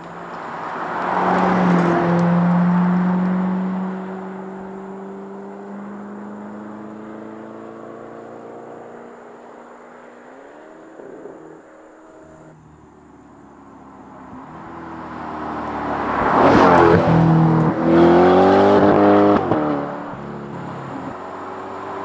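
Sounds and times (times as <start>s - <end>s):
car engine revving: 0.4s - 22.0s.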